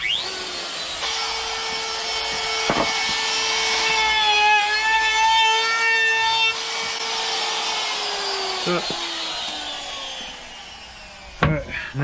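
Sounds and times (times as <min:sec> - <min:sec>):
router whining: 0:00.0 - 0:12.0
wood cutting noise: 0:00.0 - 0:12.0.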